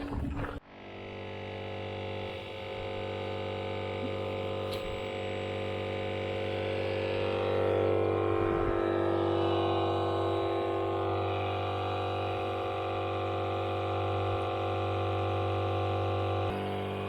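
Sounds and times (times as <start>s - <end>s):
droning chord music: 0.7s - 17.0s.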